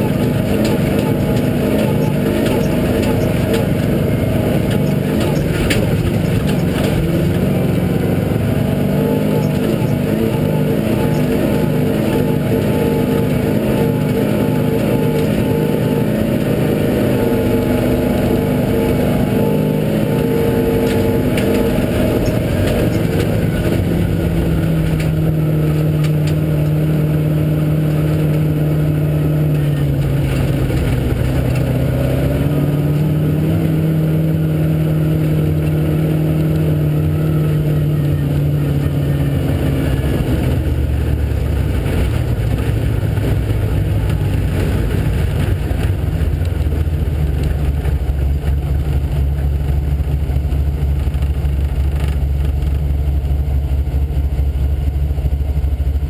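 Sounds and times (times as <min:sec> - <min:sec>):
off-road vehicle engine running: 0:00.0 - 0:56.0.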